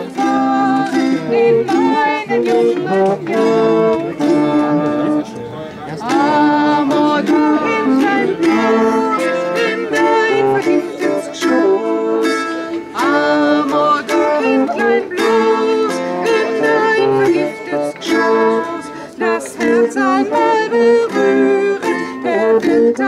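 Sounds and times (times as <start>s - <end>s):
plucked lute strings: 0.0s - 23.0s
wooden wind instrument melody: 0.0s - 23.0s.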